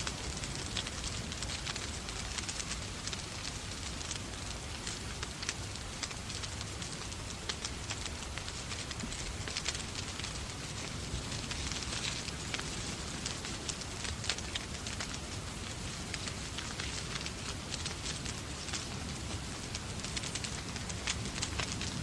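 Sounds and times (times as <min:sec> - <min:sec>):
rain hissing: 0:00.0 - 0:22.0
wood fire crackling: 0:00.0 - 0:22.0.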